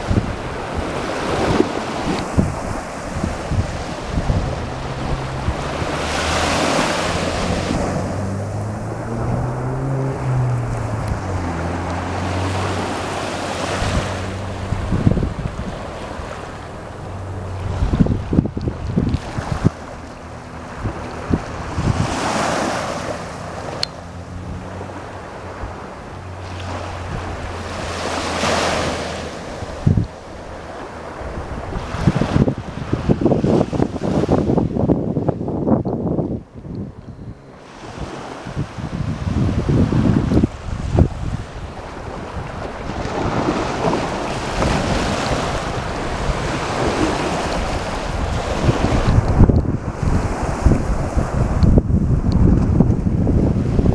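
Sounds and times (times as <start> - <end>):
sea waves washing in: 0.0 - 53.9
wind rumbling on microphone: 0.0 - 53.9.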